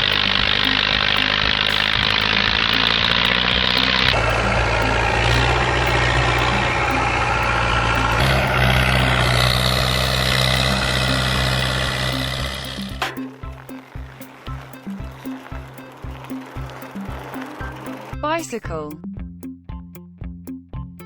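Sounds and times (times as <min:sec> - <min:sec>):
tractor engine running: 0:00.0 - 0:18.3.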